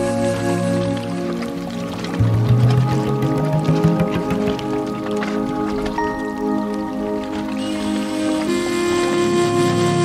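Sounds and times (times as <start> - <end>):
music with sustained notes: 0.0 - 10.0.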